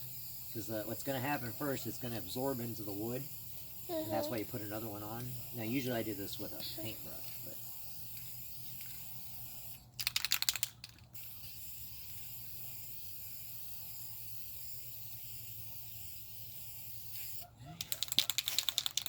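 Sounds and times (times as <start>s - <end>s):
spray can hissing: 0.0s - 17.4s
spray can rattling: 2.9s - 19.0s.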